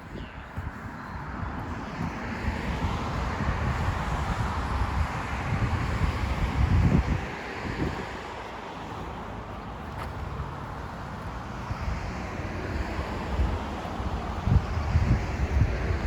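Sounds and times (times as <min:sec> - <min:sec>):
wind buffeting microphone: 0:00.0 - 0:16.0
vehicle passing: 0:00.8 - 0:16.0.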